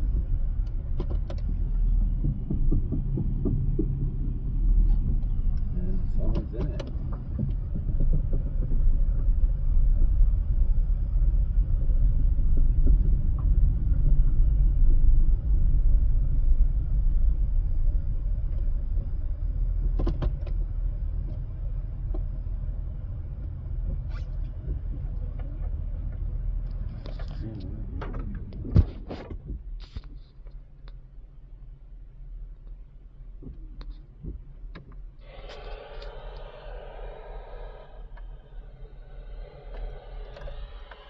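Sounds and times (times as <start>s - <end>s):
car driving on road rumble: 0.0s - 41.0s.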